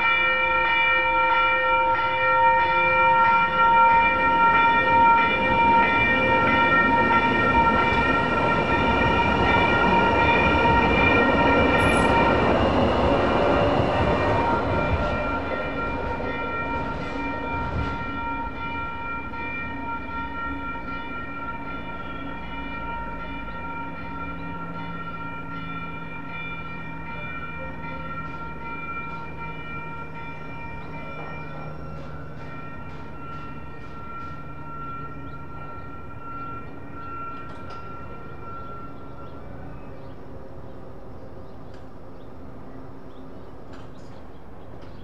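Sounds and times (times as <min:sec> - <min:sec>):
railroad crossing bell ringing: 0:00.0 - 0:45.0
train rumble: 0:02.5 - 0:45.0.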